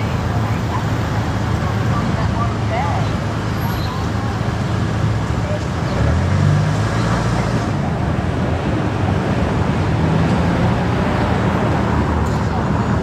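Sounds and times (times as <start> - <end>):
car driving on road: 0.0 - 13.0.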